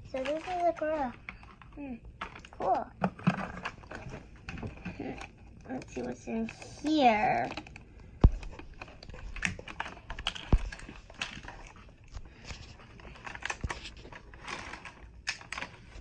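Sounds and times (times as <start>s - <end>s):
plastic wrapping crinkling: 0.1s - 16.0s.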